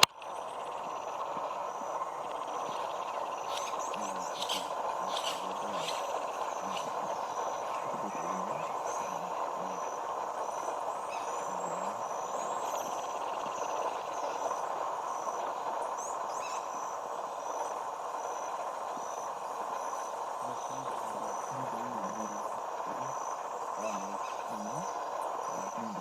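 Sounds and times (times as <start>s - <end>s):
bird calls: 0.0s - 26.0s
steady rushing hum: 0.0s - 26.0s.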